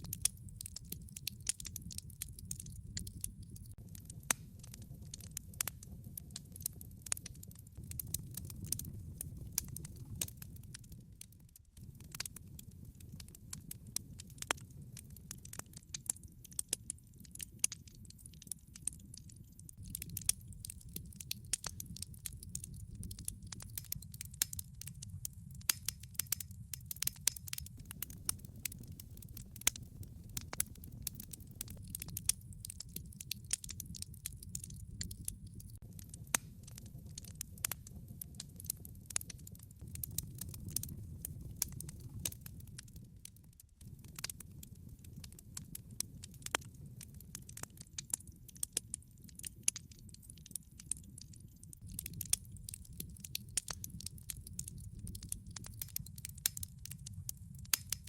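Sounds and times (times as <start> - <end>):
wood log fire crackling: 0.0 - 58.0.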